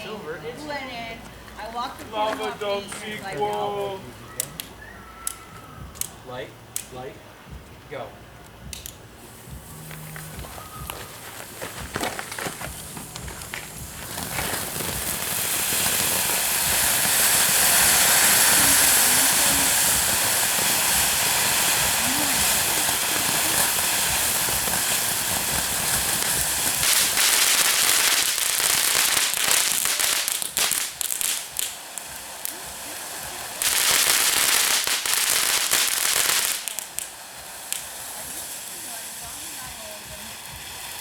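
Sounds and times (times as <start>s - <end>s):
firework fountain hissing and crackling: 0.0s - 41.0s.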